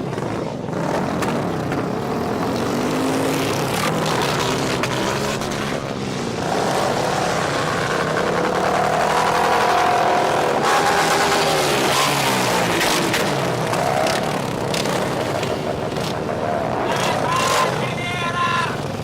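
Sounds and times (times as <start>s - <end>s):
car engine revving: 0.0s - 18.1s.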